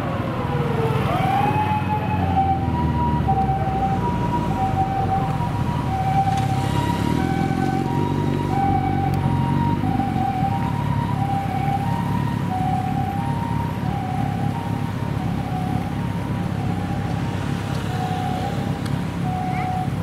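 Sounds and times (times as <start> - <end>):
road traffic rumble: 0.0 - 20.0
two-tone ambulance siren: 0.0 - 20.0.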